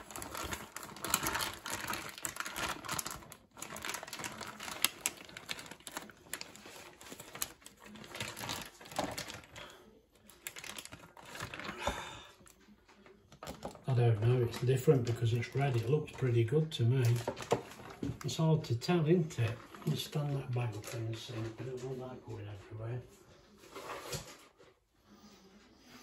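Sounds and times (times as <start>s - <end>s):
plastic bag crinkling: 0.0s - 12.7s, 13.3s - 22.9s.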